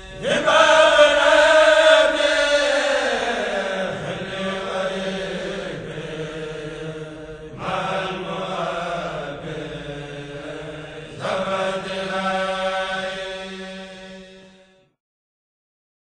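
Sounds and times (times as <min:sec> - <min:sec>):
religious chant singing: 0:00.0 - 0:15.0.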